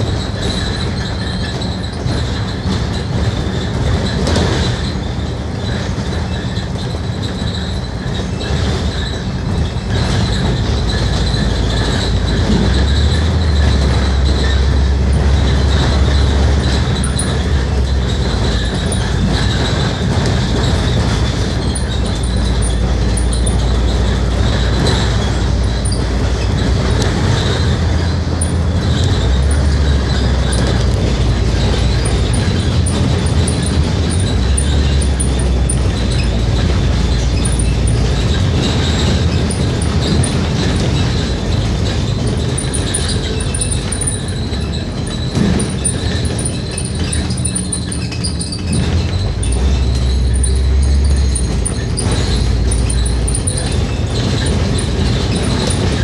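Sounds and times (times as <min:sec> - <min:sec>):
bus diesel engine drone: 0:00.0 - 0:56.0
road noise: 0:00.0 - 0:56.0.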